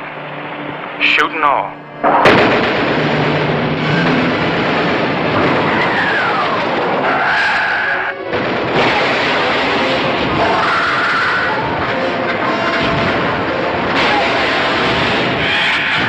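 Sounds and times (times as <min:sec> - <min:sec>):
dramatic orchestral score: 0:00.0 - 0:16.0
falling whine: 0:00.0 - 0:16.0
jet fighter engines: 0:00.0 - 0:16.0.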